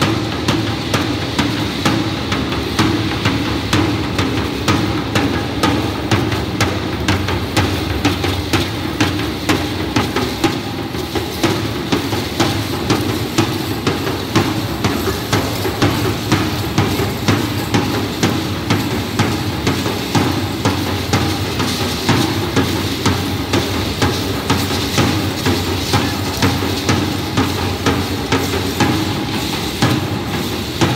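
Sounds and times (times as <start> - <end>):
drum beaten with a stick: 0.0 - 30.9.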